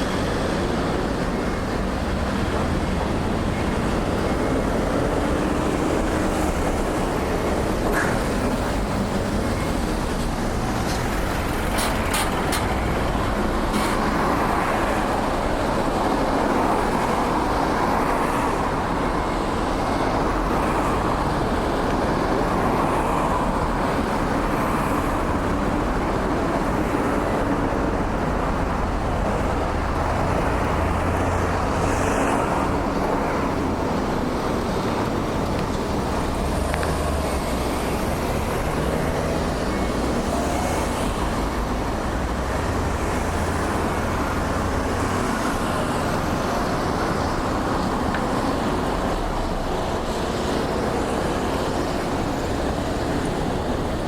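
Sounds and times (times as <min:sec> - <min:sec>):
cars and trucks passing: 0:00.0 - 0:54.0.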